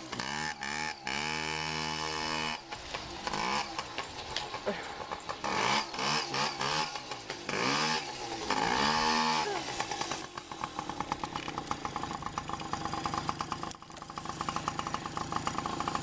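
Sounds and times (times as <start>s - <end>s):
motorbike engine revving and idling: 0.0s - 16.0s.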